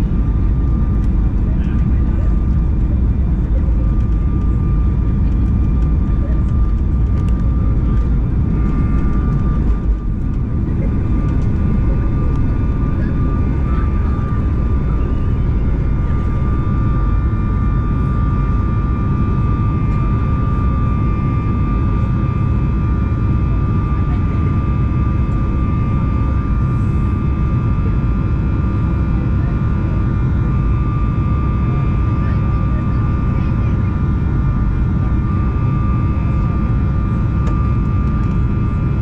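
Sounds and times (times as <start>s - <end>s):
jet engine cabin rumble: 0.0s - 39.0s
jet engine whine: 0.0s - 39.0s.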